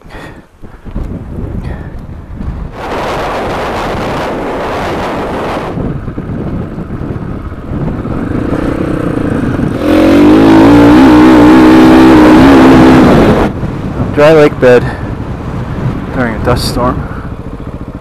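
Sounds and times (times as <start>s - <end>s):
dirt bike engine: 0.0s - 18.0s
wind noise: 0.0s - 18.0s.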